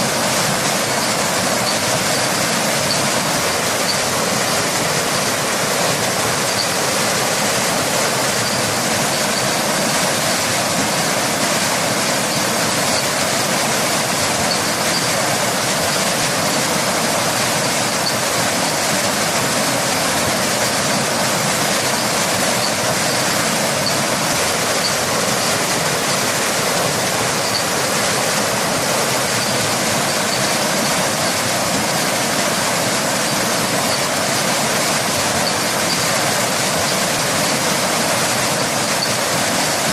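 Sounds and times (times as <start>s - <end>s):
rain: 0.0s - 39.9s
waterfall rushing: 0.0s - 39.9s.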